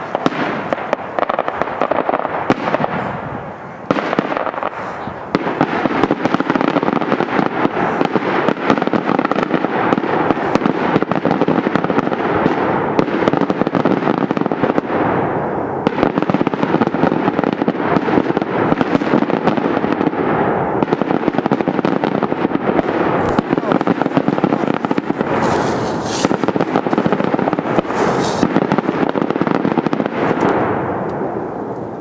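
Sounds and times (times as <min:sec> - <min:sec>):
firework bangs crackling: 0:00.0 - 0:32.0.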